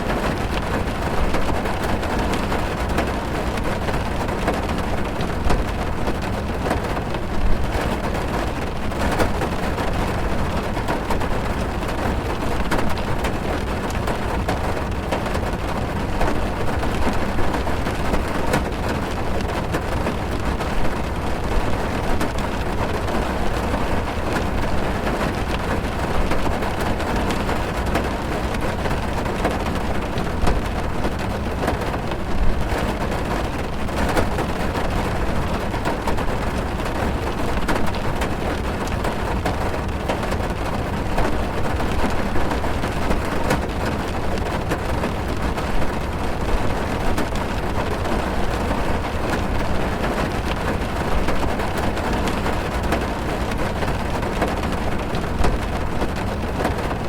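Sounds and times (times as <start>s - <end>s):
heavy rain on car roof: 0.0s - 57.0s
raindrops ticking on glass: 0.0s - 57.0s.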